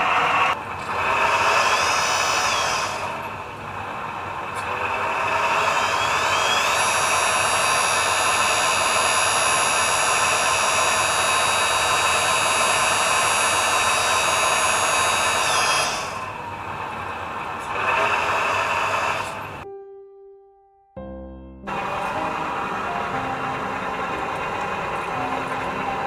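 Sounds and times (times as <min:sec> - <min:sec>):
electric pump whining: 0:00.0 - 0:19.6, 0:21.7 - 0:26.0.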